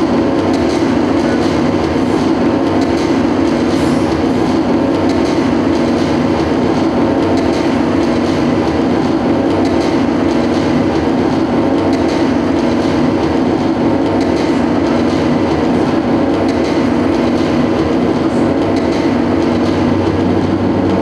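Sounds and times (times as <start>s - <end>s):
experimental noise music: 0.0s - 21.0s.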